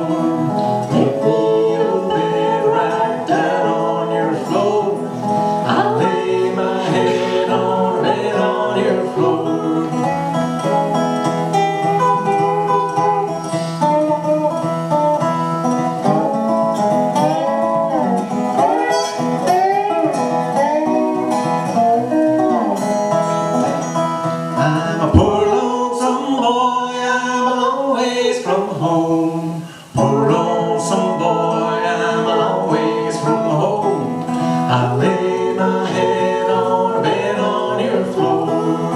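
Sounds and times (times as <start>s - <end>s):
resonator guitar playing blues: 0.0s - 27.9s, 28.5s - 38.9s.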